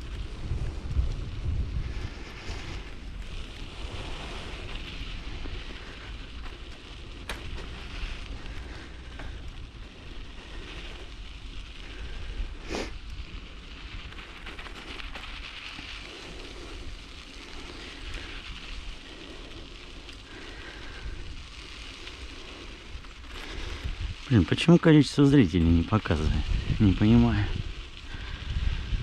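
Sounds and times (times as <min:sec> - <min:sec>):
bicycle tyres crackling on ground: 0:00.0 - 0:29.0
wind buffeting microphone: 0:00.0 - 0:29.0.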